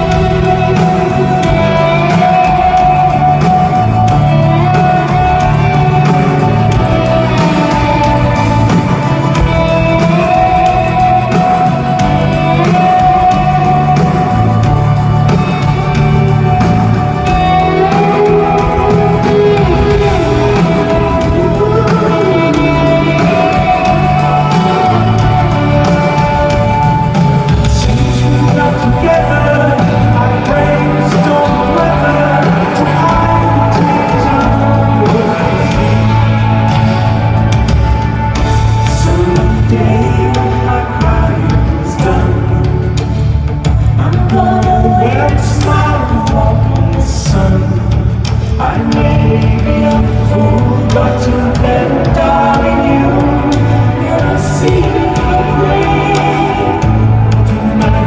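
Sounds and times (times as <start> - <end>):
lead singer singing: 0.0 - 58.0
live pop-rock band playing: 0.0 - 58.0.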